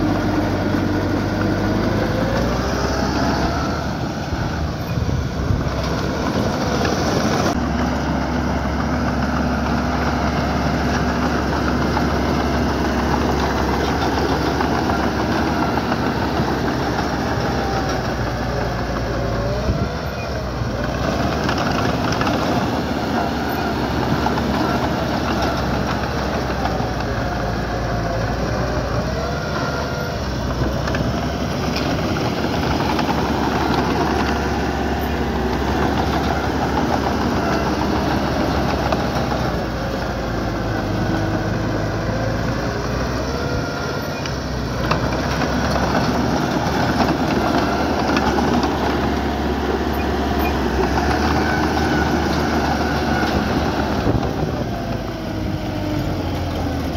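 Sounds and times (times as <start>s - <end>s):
diesel engine running loudly: 0.0s - 56.9s.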